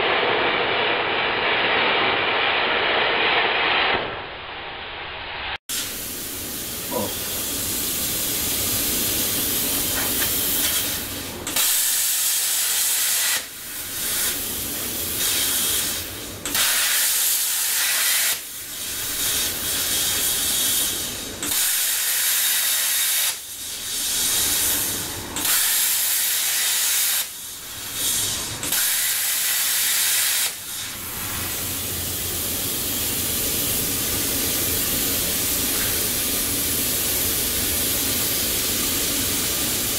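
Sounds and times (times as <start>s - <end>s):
plasma cutter hissing: 5.4s - 39.9s.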